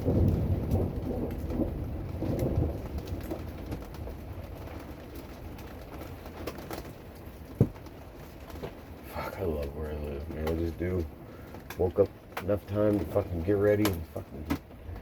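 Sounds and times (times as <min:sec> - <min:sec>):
steady rain falling: 0:00.0 - 0:15.0
thunder rumble: 0:00.0 - 0:15.0.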